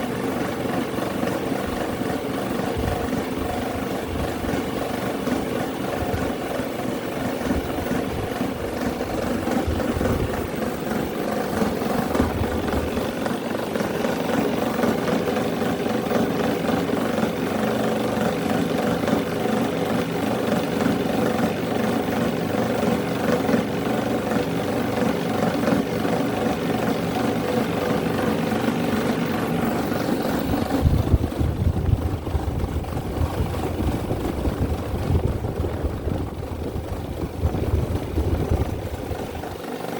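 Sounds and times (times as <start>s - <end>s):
electric fans whirring: 0.0s - 39.9s.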